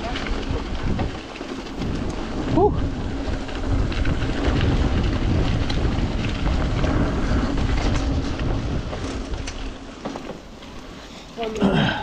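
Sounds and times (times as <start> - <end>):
bike clicks and knocks: 0.0 - 11.8
tyres rolling through mud: 0.0 - 12.0
wind buffeting microphone: 0.0 - 12.0.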